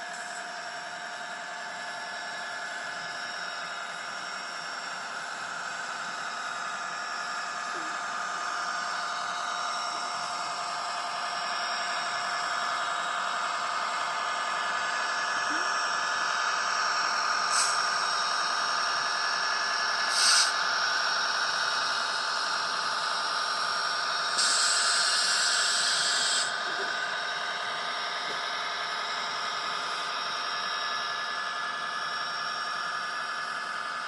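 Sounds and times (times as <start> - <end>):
model train motor whining: 0.0 - 34.0.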